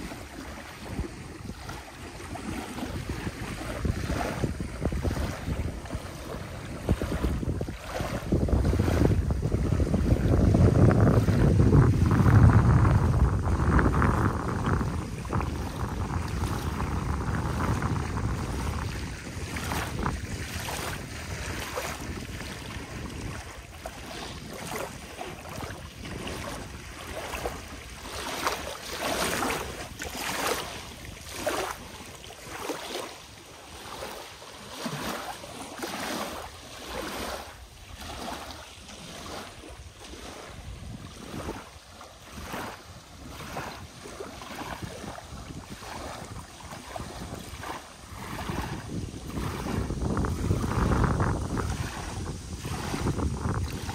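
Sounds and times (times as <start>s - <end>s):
small waves lapping on shore: 0.0s - 53.9s
wind buffeting microphone: 0.0s - 53.9s.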